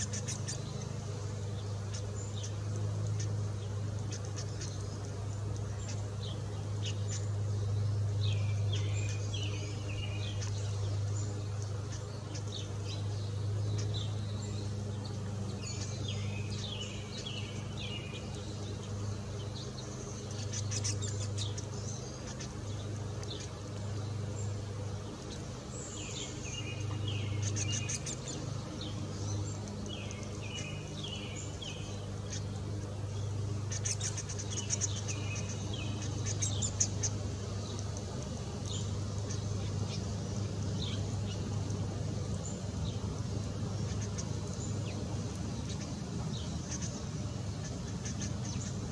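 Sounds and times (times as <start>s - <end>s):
small birds chirping: 0.0s - 48.9s
steady low hum: 0.0s - 48.9s.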